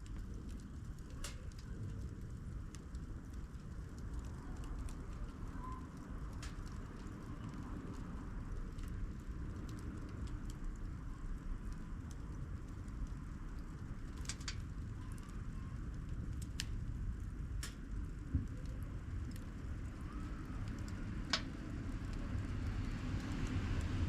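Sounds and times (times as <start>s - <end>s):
campfire rumble: 0.0s - 24.0s
fire crackling and popping: 0.0s - 24.0s.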